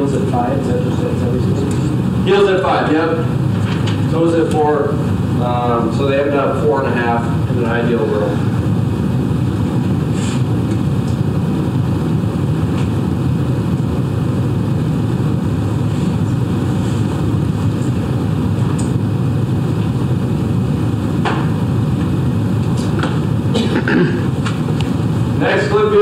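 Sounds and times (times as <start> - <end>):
low ventilation hum: 0.0 - 26.0.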